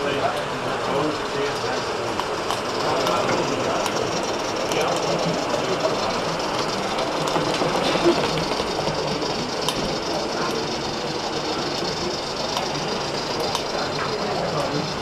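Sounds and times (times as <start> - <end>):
model steam locomotive clatter: 0.0 - 15.0.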